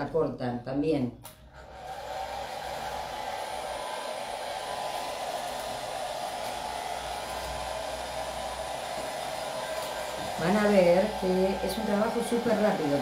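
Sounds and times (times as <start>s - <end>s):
hair dryer running: 1.5s - 13.0s.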